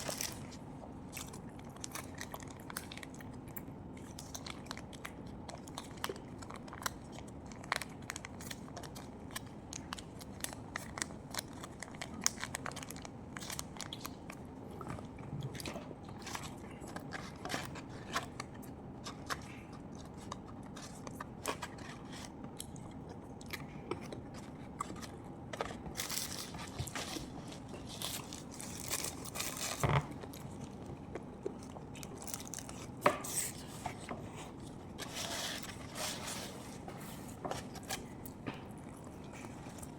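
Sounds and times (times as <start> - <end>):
person chewing with crunching: 0.0 - 39.9.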